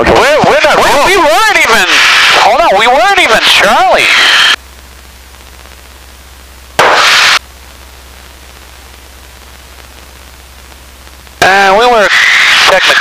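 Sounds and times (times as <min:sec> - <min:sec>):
burst of radio static: 0:00.0 - 0:13.0
radio hiss and hum: 0:00.0 - 0:13.0.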